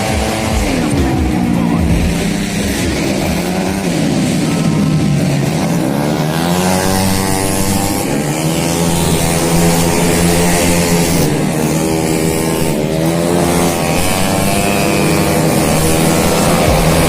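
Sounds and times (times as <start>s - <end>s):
racing scooter engines revving: 0.0s - 17.0s.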